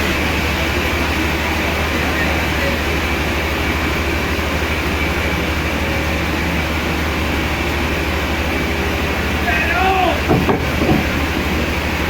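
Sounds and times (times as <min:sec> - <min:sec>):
heavy machinery pulsing hum: 0:00.0 - 0:12.0.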